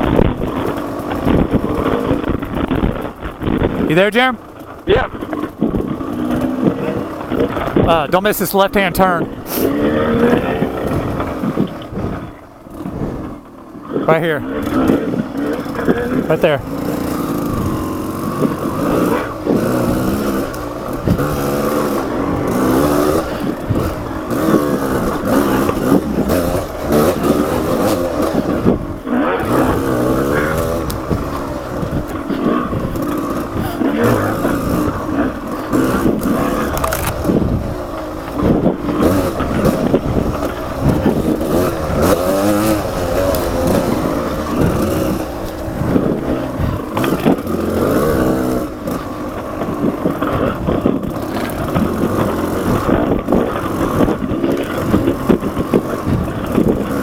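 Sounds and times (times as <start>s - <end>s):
off-road motorcycle engine revving: 0.0s - 57.0s.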